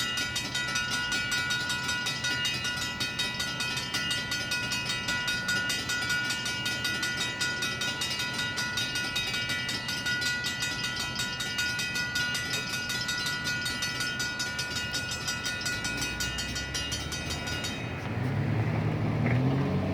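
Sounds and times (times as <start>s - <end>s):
railroad crossing bells ringing: 0.0s - 19.9s.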